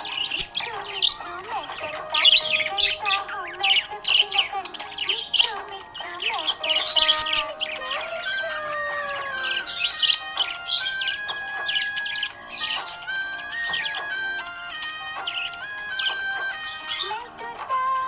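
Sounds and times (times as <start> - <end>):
budgerigar chirping: 0.0 - 17.7.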